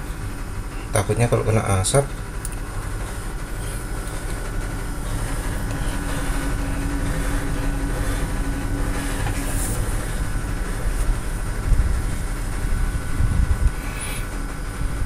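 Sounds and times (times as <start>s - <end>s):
faint hum: 0.0s - 15.0s
low rumbling noise: 0.0s - 15.0s.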